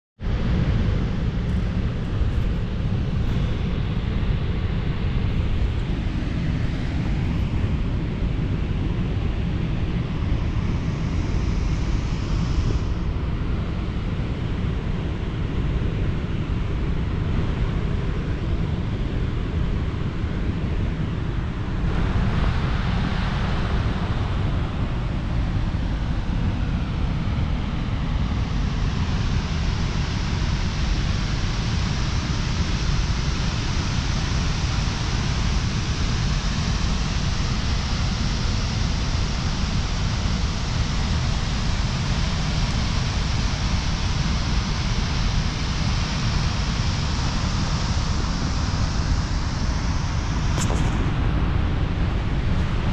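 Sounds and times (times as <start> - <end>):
wind buffeting microphone: 0.3 - 32.2, 33.1 - 52.9
distant waterfall roar: 0.3 - 52.9.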